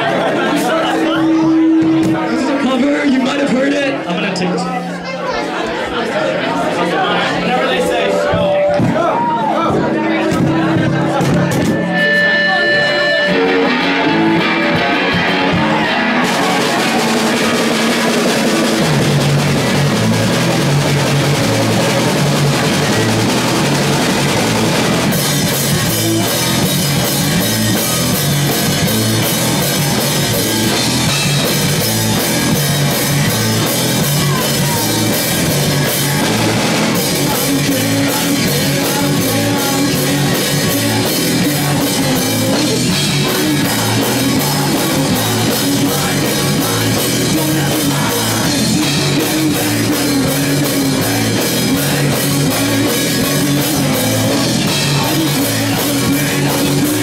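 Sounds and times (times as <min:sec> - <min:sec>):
drums keeping a steady beat: 0:00.0 - 0:05.0, 0:07.8 - 0:57.0
live rock band playing: 0:00.0 - 0:05.6, 0:07.6 - 0:57.0.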